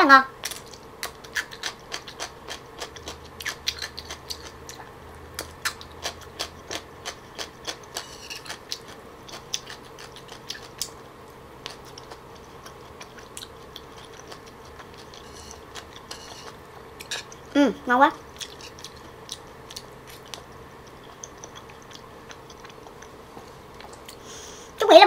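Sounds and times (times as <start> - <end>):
faint steady hum: 0.0 - 25.0
crunchy chewing: 0.4 - 17.5, 18.2 - 24.2.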